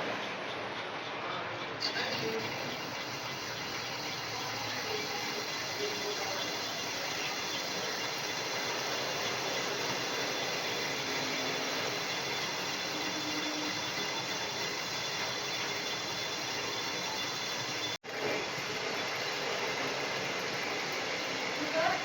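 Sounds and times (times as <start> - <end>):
lathe running: 0.0 - 22.0.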